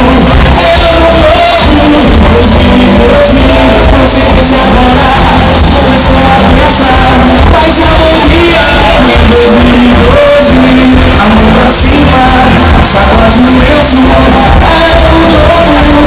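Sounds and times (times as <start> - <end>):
heavy steady bass: 0.0 - 16.0
live band music with singer: 0.0 - 16.0.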